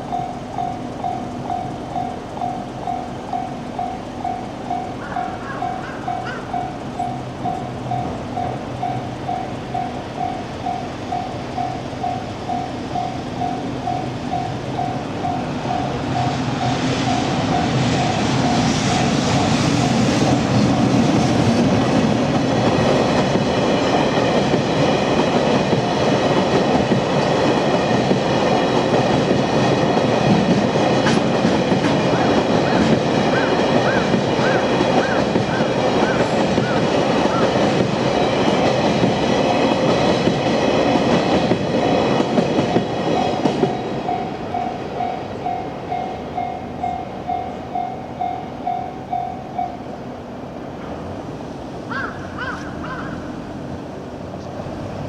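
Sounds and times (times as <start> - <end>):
level-crossing warning bell: 0.0 - 21.2, 21.8 - 50.2
train rumble and clatter: 0.0 - 55.0.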